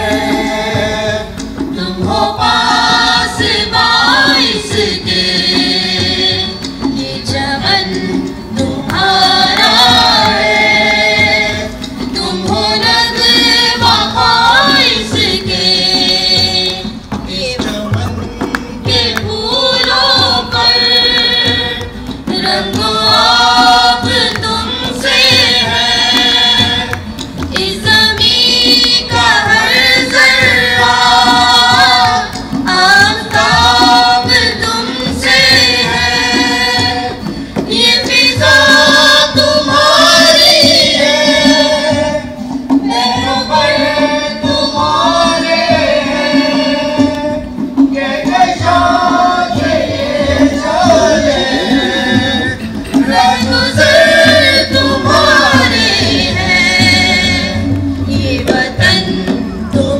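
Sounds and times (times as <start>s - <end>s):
sustained musical accompaniment: 0.0s - 59.9s.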